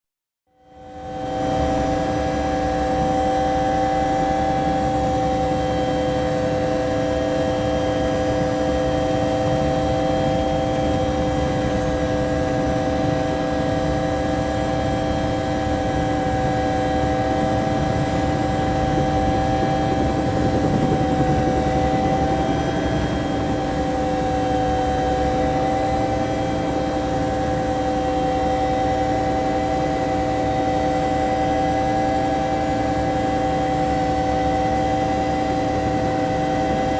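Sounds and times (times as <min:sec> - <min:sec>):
helicopter rotor rumble: 0:00.8 - 0:36.9
helicopter turbine whine: 0:00.8 - 0:36.9.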